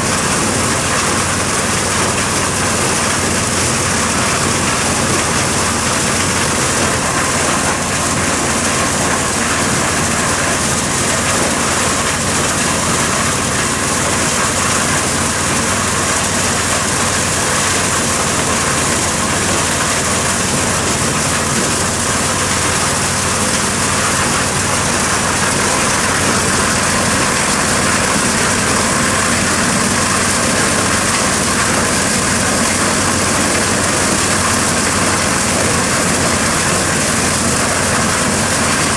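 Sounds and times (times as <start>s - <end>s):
corn sheller engine drone: 0.0s - 38.9s.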